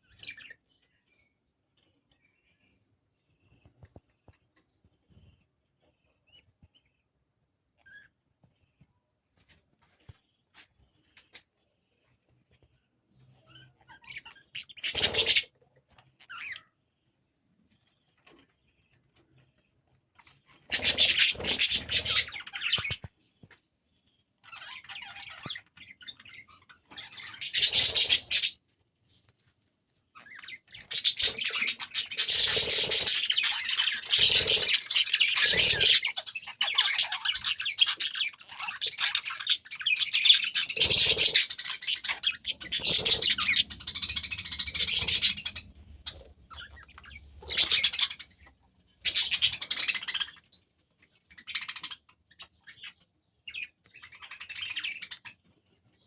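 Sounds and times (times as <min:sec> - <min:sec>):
birds screeching and chattering: 0:00.0 - 0:01.2, 0:07.8 - 0:28.8, 0:30.0 - 0:56.0.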